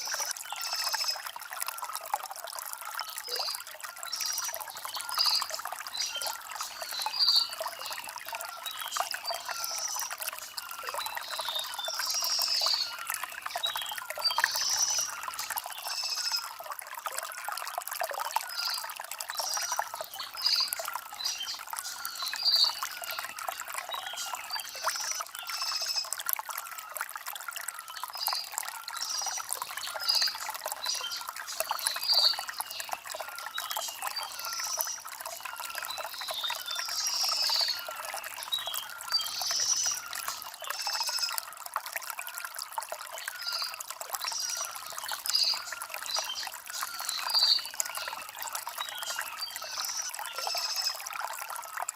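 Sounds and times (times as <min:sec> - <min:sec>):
stream trickling over stones: 0:00.0 - 0:51.9.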